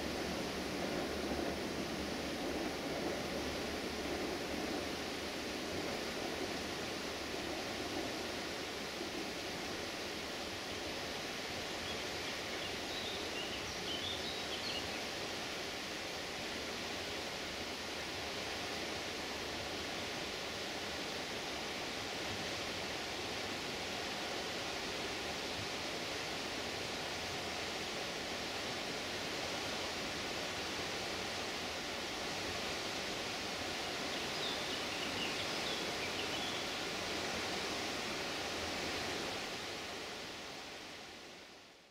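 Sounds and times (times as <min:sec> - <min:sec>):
river rushing: 0:00.0 - 0:41.8.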